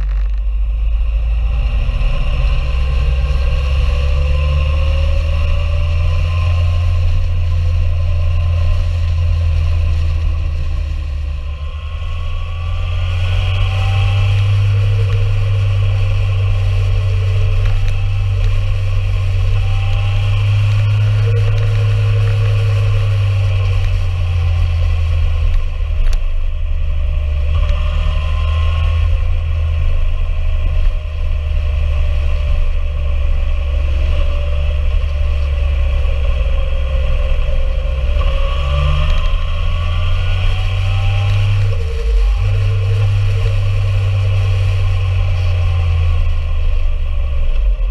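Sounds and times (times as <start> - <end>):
motorcycle engine running: 0.0 - 47.9
wind rumble on microphone: 0.0 - 47.9.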